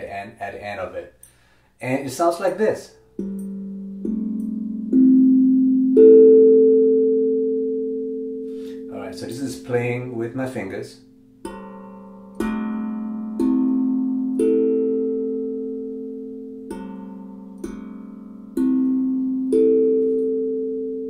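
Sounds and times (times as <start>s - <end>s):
steel tongue drum notes: 2.9s - 21.0s.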